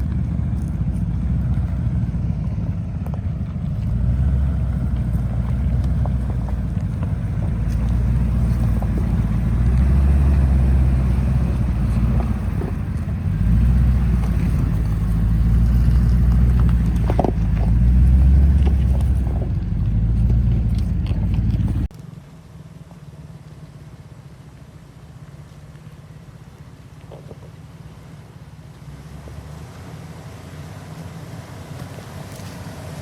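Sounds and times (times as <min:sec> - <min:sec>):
truck engine driving off-road: 0:00.0 - 0:33.0.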